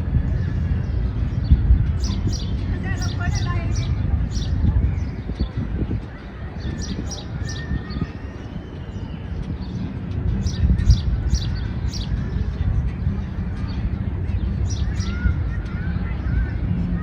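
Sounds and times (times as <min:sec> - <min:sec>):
low park background rumble: 0:00.0 - 0:17.0
small birds chirping: 0:00.0 - 0:17.0.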